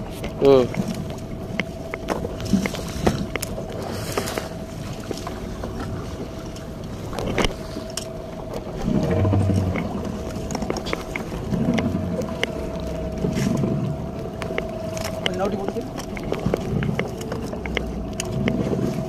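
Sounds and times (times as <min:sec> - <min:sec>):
boat motor humming: 0:00.0 - 0:19.0
water washing: 0:00.0 - 0:19.0.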